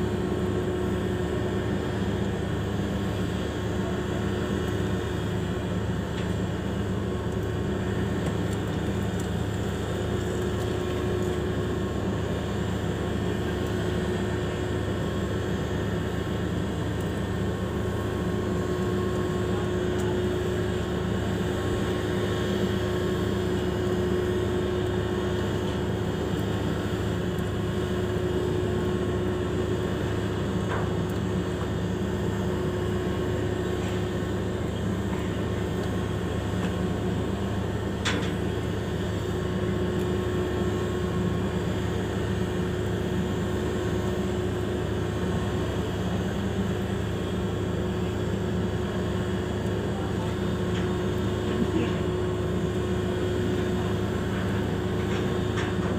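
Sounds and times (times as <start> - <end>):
ship engine drone: 0.0 - 55.9.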